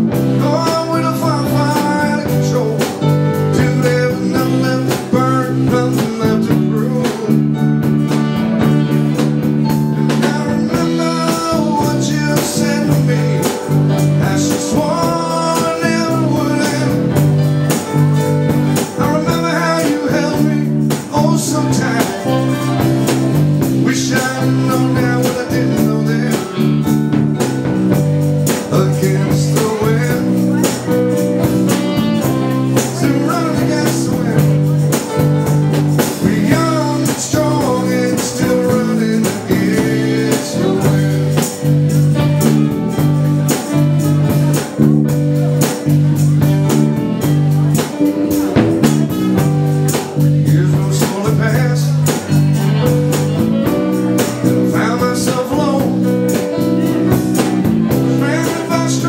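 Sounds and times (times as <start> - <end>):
electric guitar: 0.0 - 59.0
live blues-rock band: 0.0 - 59.0.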